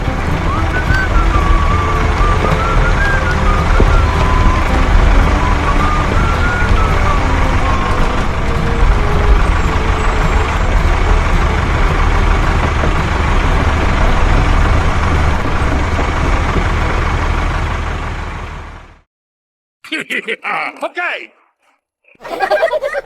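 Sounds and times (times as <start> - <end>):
truck engine rumbling: 0.0 - 19.1.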